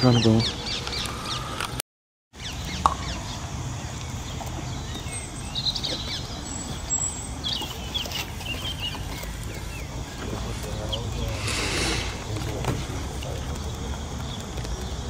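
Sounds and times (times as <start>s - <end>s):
birds chirping and singing: 0.0s - 1.8s, 2.4s - 15.0s.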